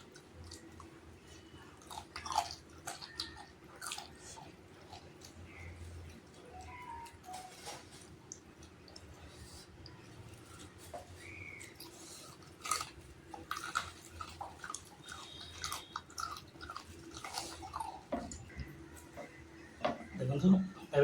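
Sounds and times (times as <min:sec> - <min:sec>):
person chewing food: 0:00.0 - 0:20.1.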